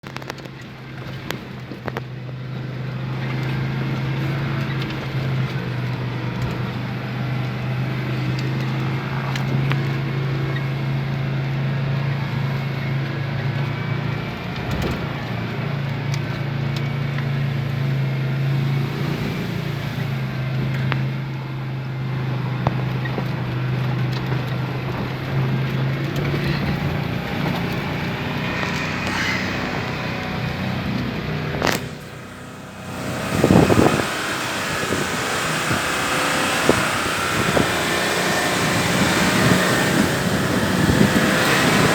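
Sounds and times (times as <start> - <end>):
off-road vehicle engine droning: 0.0 - 41.9.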